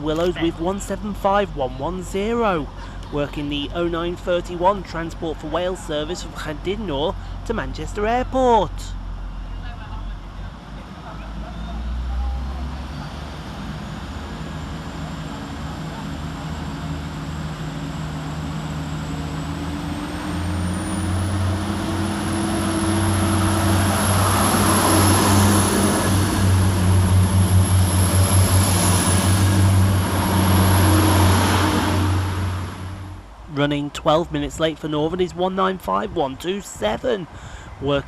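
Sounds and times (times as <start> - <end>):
train diesel engines running: 0.0 - 38.0.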